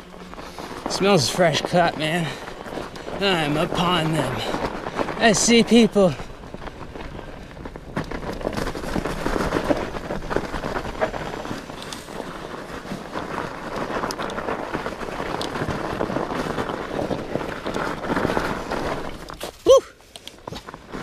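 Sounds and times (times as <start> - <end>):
bike clicks and rattles: 0.0 - 21.0
bike tyres on snow and dirt: 0.0 - 21.0.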